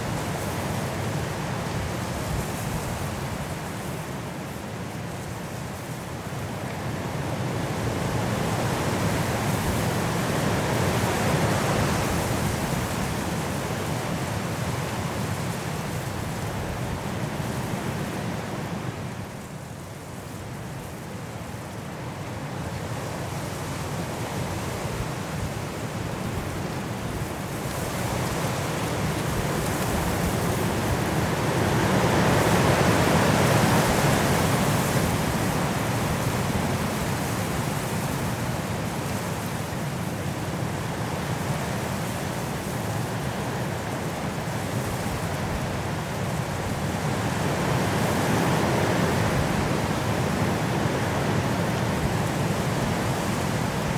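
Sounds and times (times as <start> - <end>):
strong wind through trees: 0.0 - 53.9.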